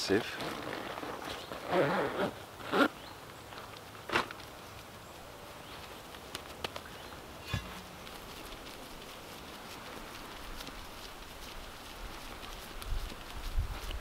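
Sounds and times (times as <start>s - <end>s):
handling rustles and light knocks: 0.0s - 14.0s.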